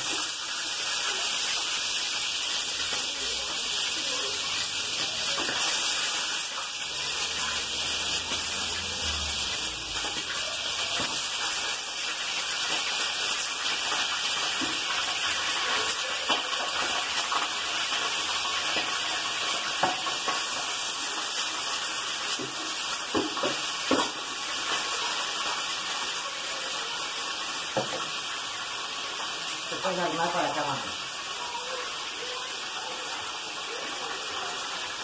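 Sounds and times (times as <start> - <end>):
chicken sizzling in hot oil: 0.0 - 35.0.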